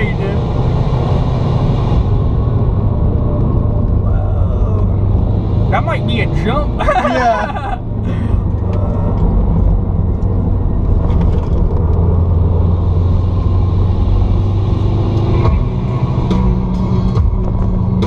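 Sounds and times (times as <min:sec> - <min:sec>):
car engine and tyre drone: 0:00.0 - 0:18.0.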